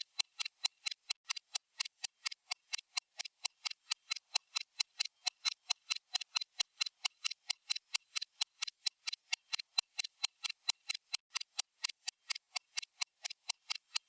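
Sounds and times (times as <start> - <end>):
stopwatch ticking: 0.0 - 14.0.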